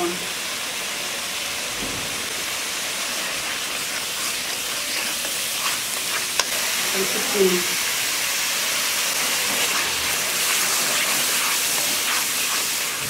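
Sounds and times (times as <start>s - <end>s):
spice paste sizzling in oil: 0.0s - 1.7s, 2.4s - 13.0s.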